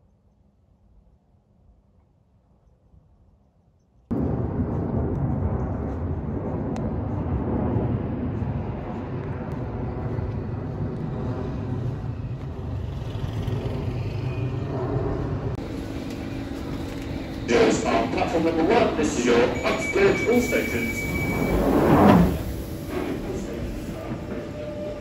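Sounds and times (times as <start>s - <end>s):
city street rumble: 0.1s - 25.0s.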